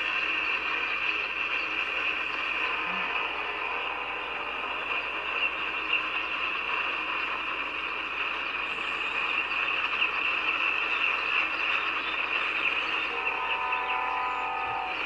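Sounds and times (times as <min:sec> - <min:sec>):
low train rumble: 0:00.0 - 0:15.0
train wheels hissing on rail: 0:00.0 - 0:15.0.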